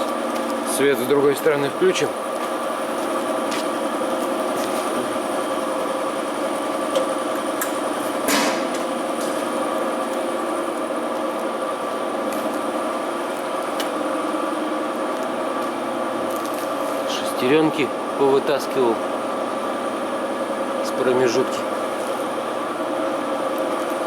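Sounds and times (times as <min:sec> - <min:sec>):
machine droning hum: 0:00.0 - 0:24.0.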